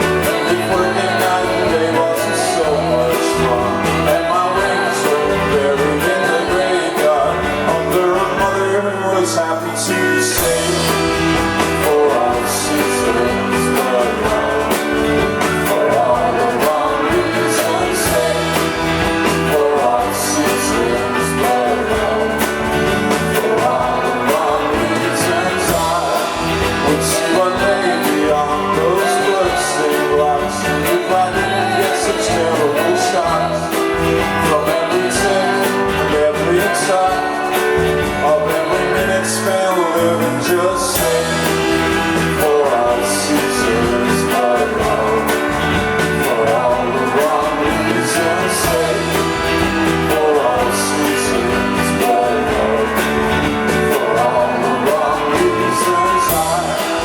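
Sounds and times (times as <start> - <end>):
lead vocal singing: 0.0 - 57.0
live band playing: 0.0 - 57.0.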